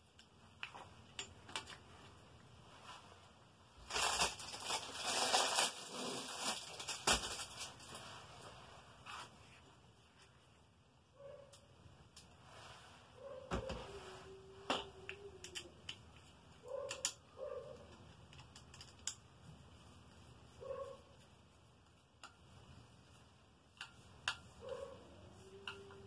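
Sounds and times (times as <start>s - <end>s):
rustling and scraping: 0.8s - 10.5s, 12.3s - 26.0s.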